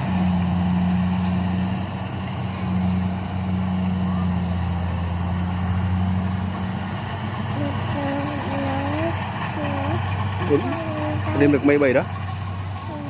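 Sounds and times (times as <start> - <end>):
harvester engine drone: 0.0 - 13.0.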